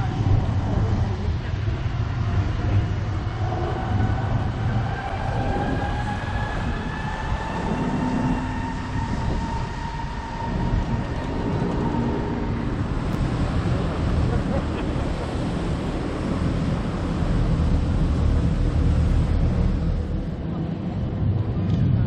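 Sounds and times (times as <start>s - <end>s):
tram motor whine rising: 0.0s - 21.0s
low rumble: 0.0s - 22.0s.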